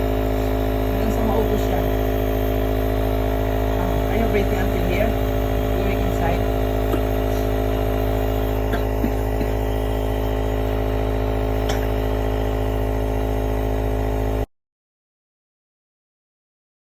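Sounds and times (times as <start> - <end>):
nebulizer humming: 0.0 - 14.5.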